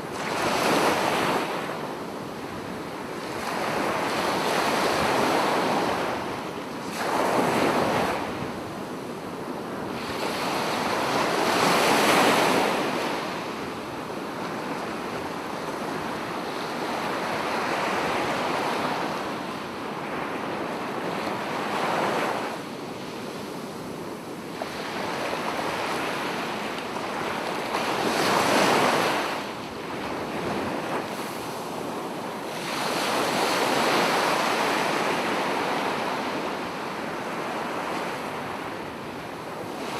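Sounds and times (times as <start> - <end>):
sea waves breaking on a beach: 0.0 - 39.9.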